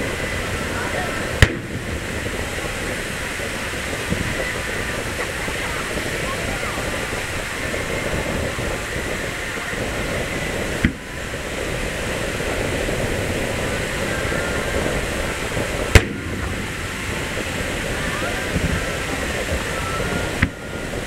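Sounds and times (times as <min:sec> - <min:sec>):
firework shells bursting: 0:00.0 - 0:21.0
steady background noise: 0:00.0 - 0:21.0.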